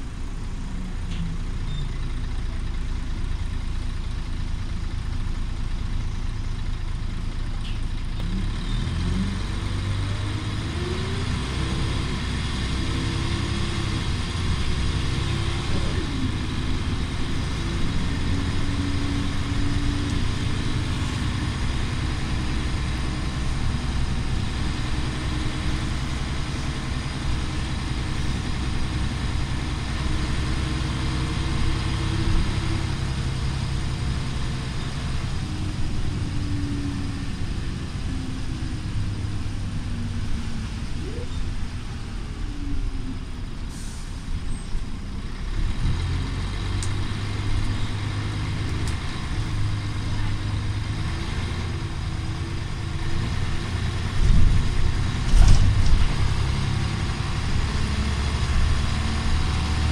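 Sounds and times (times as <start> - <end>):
bus diesel engine pulling away: 0.0 - 59.9
low road rumble: 0.0 - 59.9.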